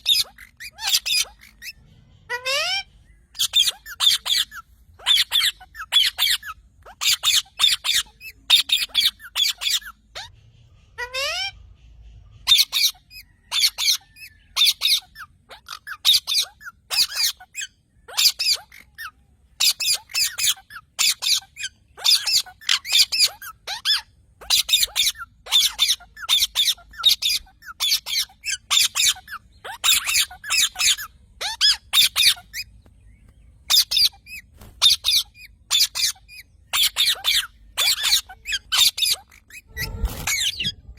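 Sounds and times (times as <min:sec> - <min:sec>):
parrot squawking: 0:00.0 - 0:10.3, 0:11.0 - 0:11.6, 0:12.4 - 0:32.7, 0:33.6 - 0:40.9.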